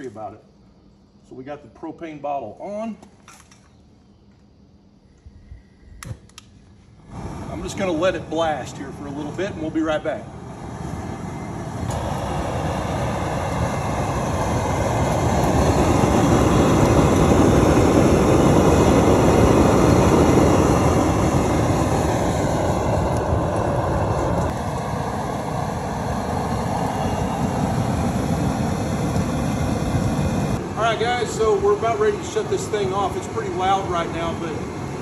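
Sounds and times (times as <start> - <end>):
gas burner roaring: 6.0 - 35.0.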